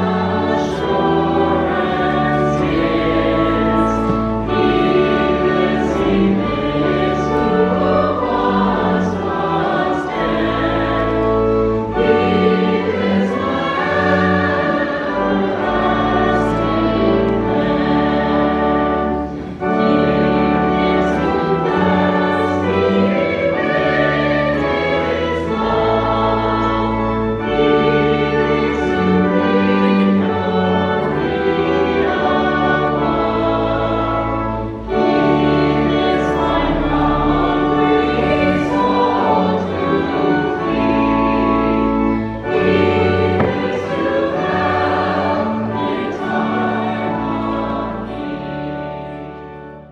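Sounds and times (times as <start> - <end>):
choir singing a hymn: 0.0 - 49.9
instrumental accompaniment: 0.0 - 49.9.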